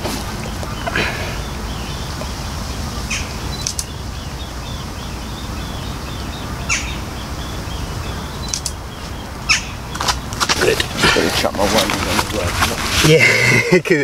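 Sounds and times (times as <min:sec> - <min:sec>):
steady low rumble: 0:00.0 - 0:13.0
birds chirping: 0:00.0 - 0:14.0.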